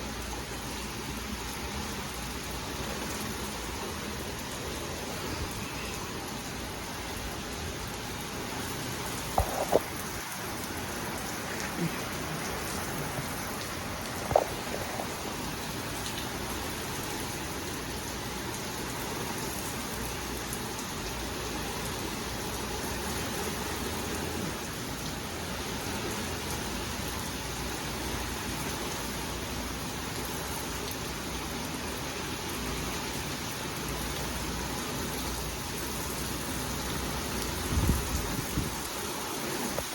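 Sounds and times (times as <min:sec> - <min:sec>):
steady rain: 0:00.0 - 0:39.9
wind: 0:00.0 - 0:39.9.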